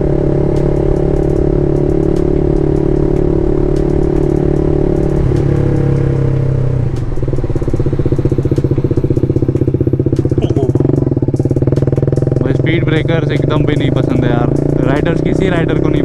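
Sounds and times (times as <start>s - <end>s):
motorcycle engine slowing down: 0.0s - 16.0s.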